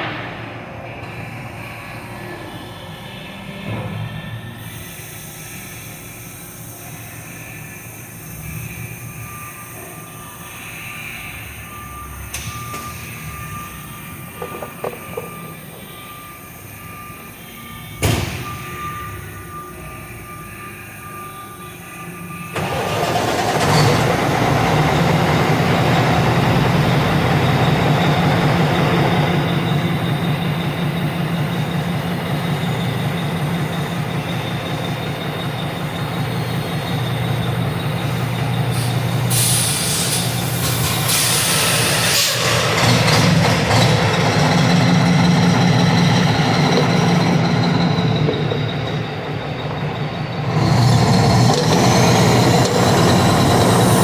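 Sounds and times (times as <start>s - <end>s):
heavy engine humming: 0.0s - 54.0s.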